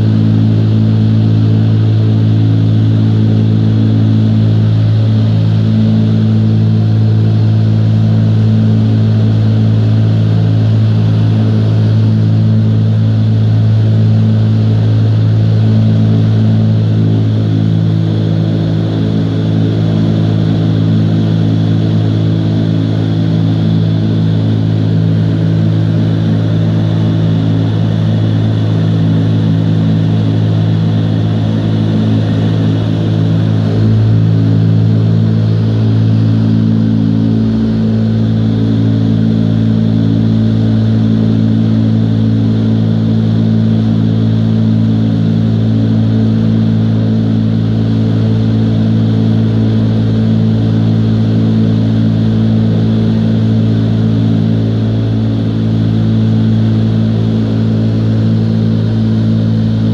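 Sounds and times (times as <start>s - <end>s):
wind tunnel fans rushing air: 0.0s - 59.9s.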